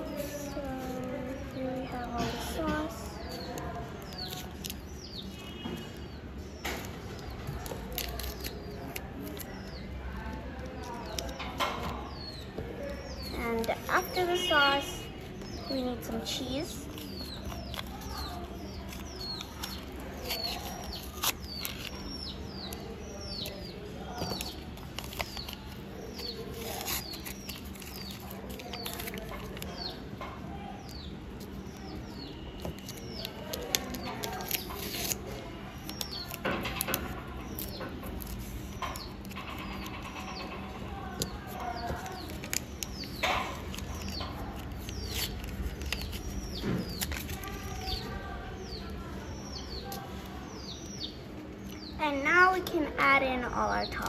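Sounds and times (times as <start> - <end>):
bird chirping: 0.0 - 10.0, 10.8 - 54.0
paper crinkles: 0.0 - 30.1, 30.8 - 40.3, 41.0 - 49.2.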